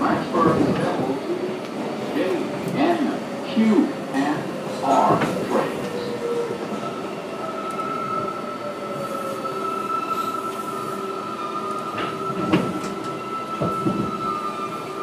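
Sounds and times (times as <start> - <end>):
subway car running noise: 0.0 - 15.0.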